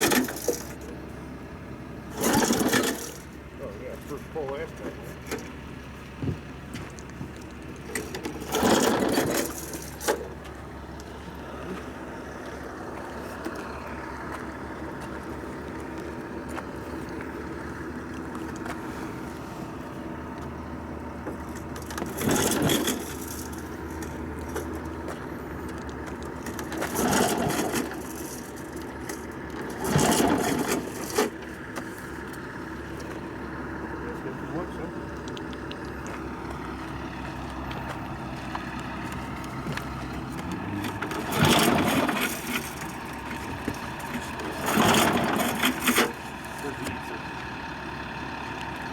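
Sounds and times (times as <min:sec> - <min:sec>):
compressor petrol engine running: 0:00.0 - 0:48.9.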